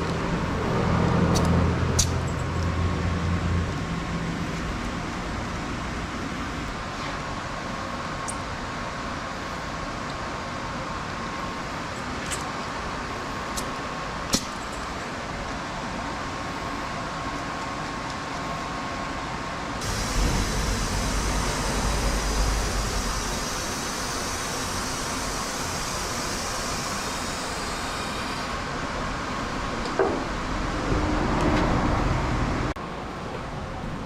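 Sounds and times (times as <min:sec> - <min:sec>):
vehicle running with road noise: 0:00.0 - 0:25.4, 0:28.4 - 0:34.0.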